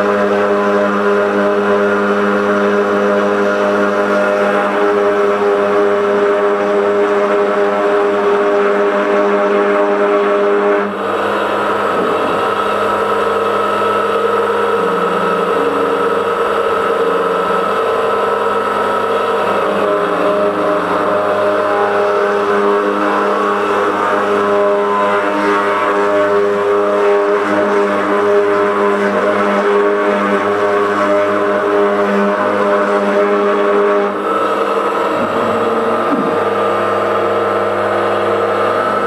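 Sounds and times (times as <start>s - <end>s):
router spindle whine grinding stone: 0.1s - 39.0s.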